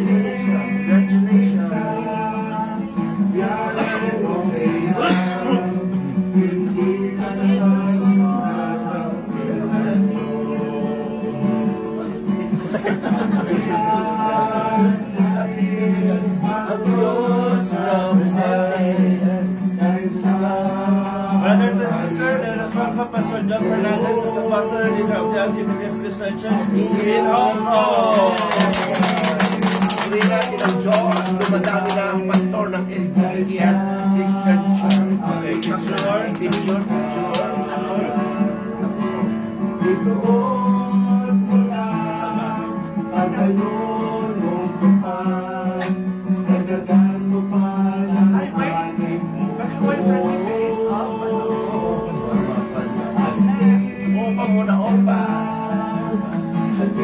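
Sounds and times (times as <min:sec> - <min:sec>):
accompaniment music: 0:00.0 - 0:57.0
people singing a hymn: 0:00.0 - 0:57.0.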